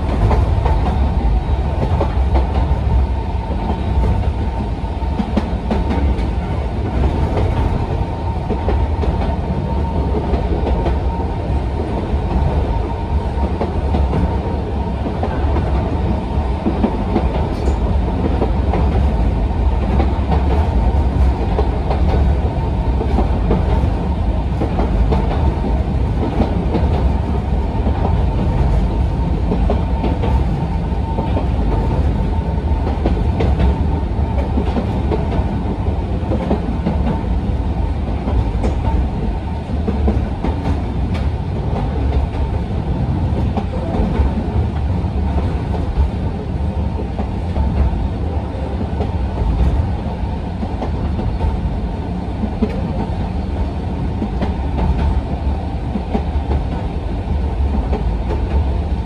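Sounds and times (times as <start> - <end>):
railcar wheels rumbling on rail: 0.0 - 59.0.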